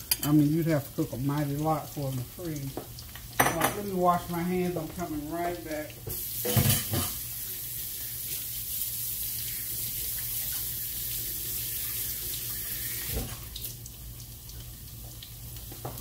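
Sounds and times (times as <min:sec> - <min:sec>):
faucet running into sink: 0:00.1 - 0:13.9.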